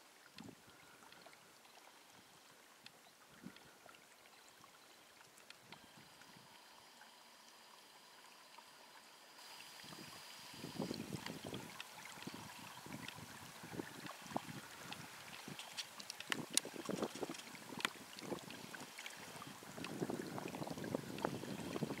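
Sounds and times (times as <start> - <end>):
stream trickling: 0.0 - 22.0.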